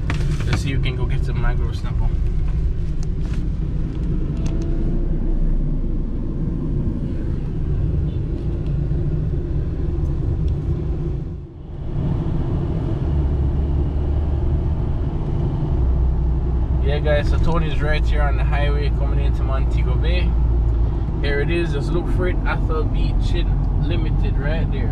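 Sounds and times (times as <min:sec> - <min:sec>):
car cabin road rumble: 0:00.0 - 0:24.9.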